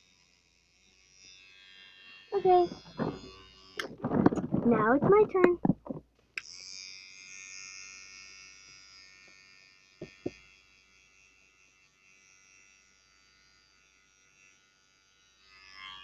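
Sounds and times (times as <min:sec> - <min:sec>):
electric toothbrush buzzing: 0:00.0 - 0:16.0.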